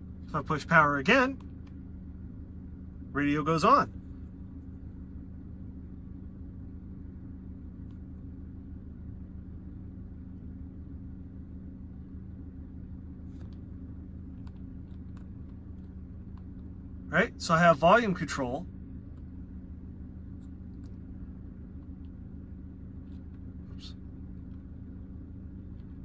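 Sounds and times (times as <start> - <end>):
car cabin hum: 0.0 - 26.0.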